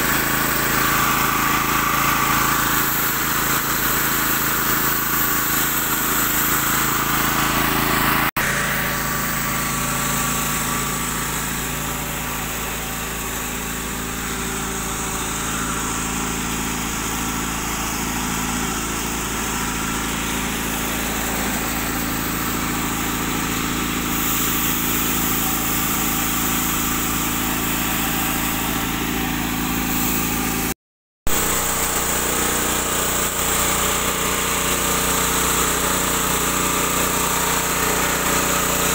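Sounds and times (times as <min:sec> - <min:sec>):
threshing machine engine running: 0:00.0 - 0:30.7, 0:31.3 - 0:38.9.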